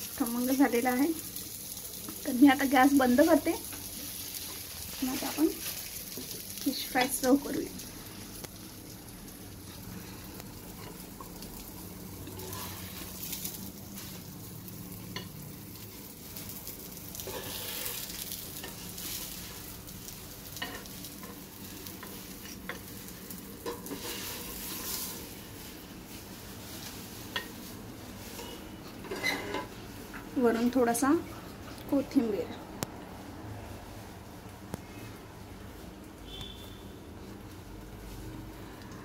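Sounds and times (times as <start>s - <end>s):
fish frying in oil: 0.0s - 31.2s.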